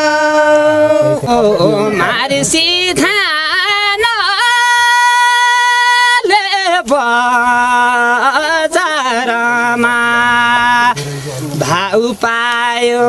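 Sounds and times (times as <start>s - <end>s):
person singing long held notes: 0.0s - 13.0s.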